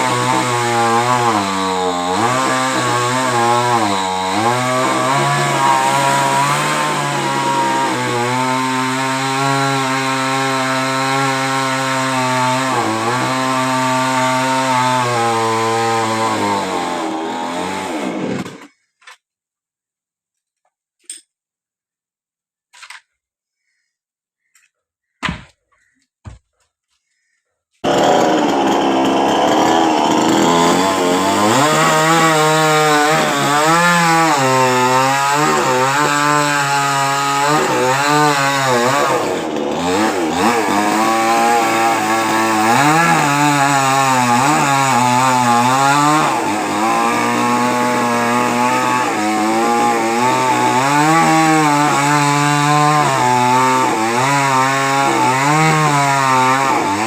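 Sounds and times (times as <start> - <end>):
chainsaw cutting wood: 0.0 - 18.9, 27.8 - 57.0.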